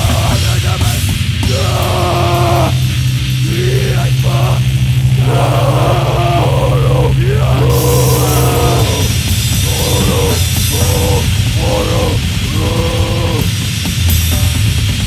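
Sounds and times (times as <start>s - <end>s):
rock band playing heavy music: 0.0s - 15.0s.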